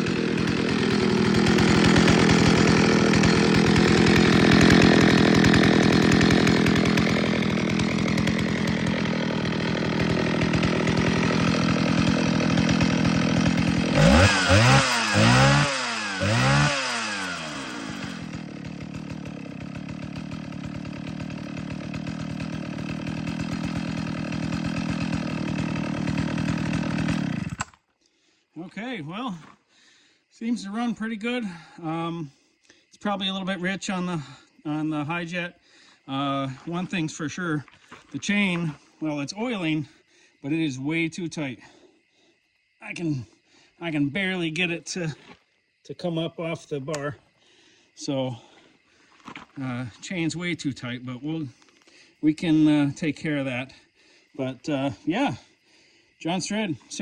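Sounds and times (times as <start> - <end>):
chainsaw engine revving and idling: 0.0 - 27.8, 31.0 - 40.1, 47.9 - 57.0.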